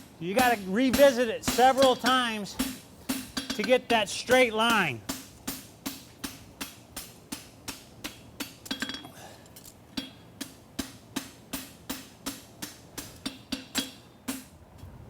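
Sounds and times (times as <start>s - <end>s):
hammer striking horseshoe on anvil: 0.2s - 9.2s, 10.0s - 14.5s.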